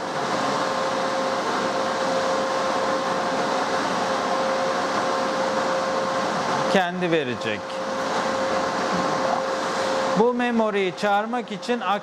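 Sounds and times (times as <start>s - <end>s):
cooling fans rushing air: 0.0s - 12.0s
faint steady whine: 0.0s - 12.0s.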